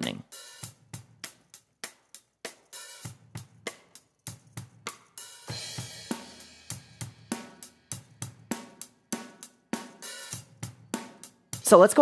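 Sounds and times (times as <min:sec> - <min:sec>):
drum kit beat: 0:00.0 - 0:12.0
hi-hat and cymbals: 0:00.3 - 0:12.0.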